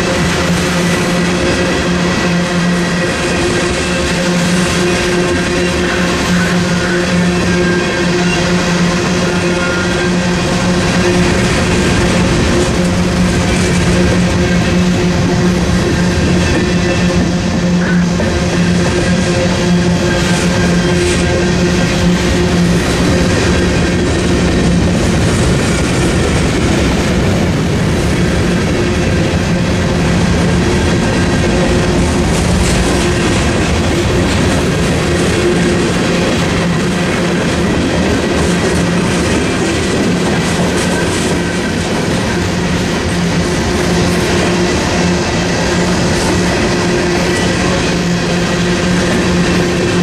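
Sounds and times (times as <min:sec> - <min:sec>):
train rumble: 0:00.0 - 0:50.0.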